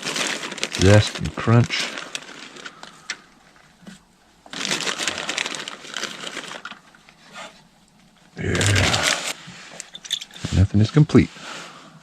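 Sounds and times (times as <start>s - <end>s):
crunchy rustling of cabbage: 0.0s - 9.7s.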